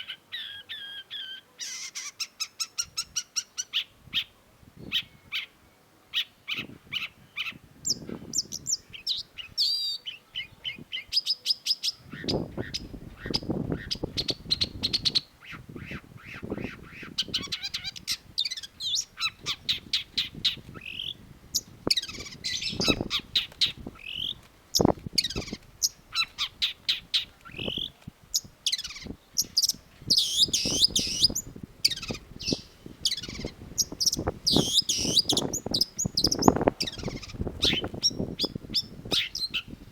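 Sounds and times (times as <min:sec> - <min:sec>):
bird chattering song: 0:00.0 - 0:39.8.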